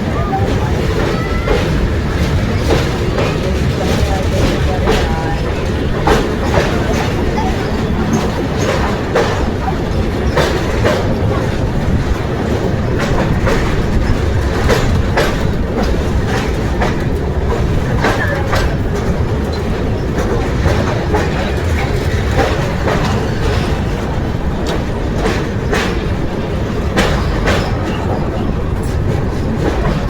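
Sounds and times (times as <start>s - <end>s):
train rumbling: 0.0s - 30.0s
wheels clicking over rail joints: 0.0s - 30.0s.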